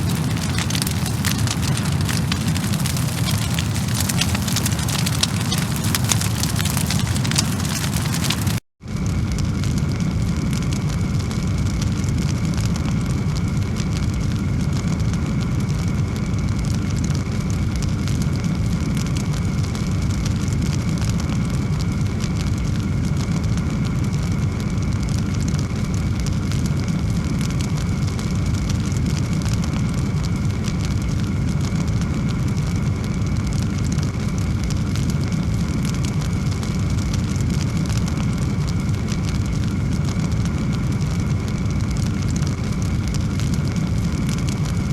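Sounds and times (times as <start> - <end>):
fire roaring and crackling: 0.0 - 44.9.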